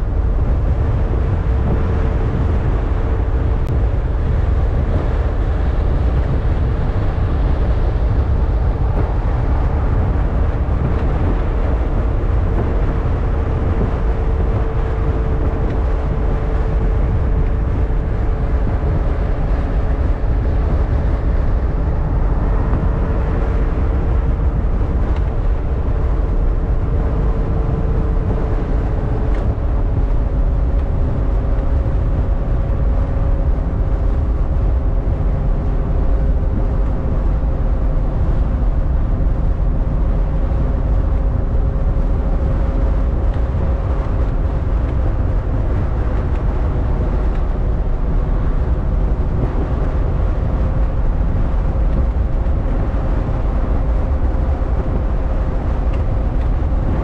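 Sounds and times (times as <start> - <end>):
car engine hum: 0.0 - 57.0
low road rumble: 0.0 - 57.0.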